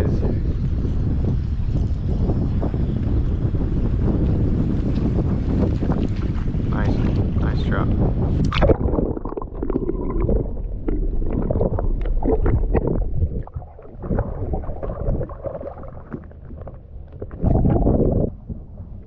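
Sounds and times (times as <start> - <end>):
muffled water gurgling and sloshing: 0.0 - 19.0.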